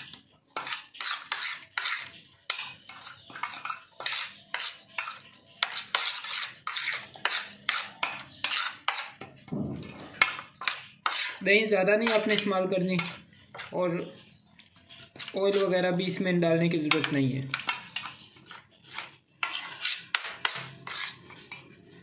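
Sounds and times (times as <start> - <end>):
metal spoon scraping steel plate: 0.0 - 22.0.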